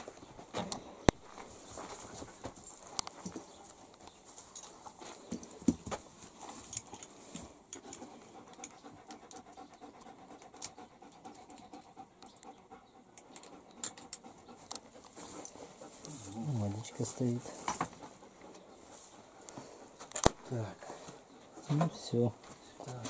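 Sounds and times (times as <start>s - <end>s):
dog panting: 0.0s - 5.4s, 7.8s - 22.4s.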